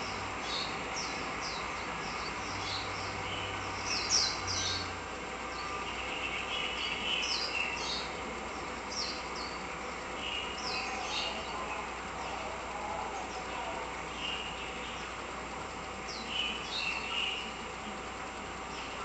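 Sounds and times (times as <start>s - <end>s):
faint low hum: 0.0s - 19.0s
outdoor ambient noise: 0.0s - 19.0s
small birds chirping: 0.0s - 19.0s.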